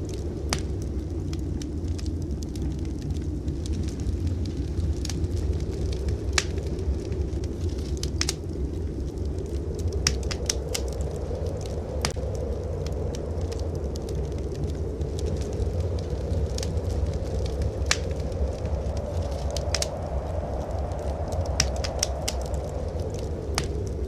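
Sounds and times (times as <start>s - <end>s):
blizzard wind rumble: 0.0s - 24.0s
wood fire crackling: 0.0s - 24.0s.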